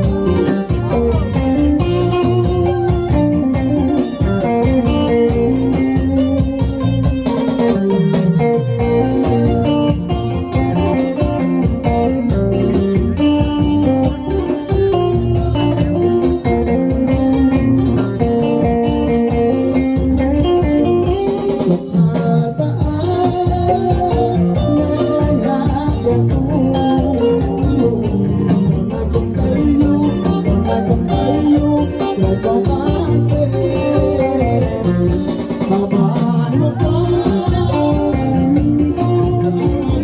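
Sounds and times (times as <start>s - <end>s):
lead guitar: 0.0s - 40.0s
live band playing dance tune: 0.0s - 40.0s.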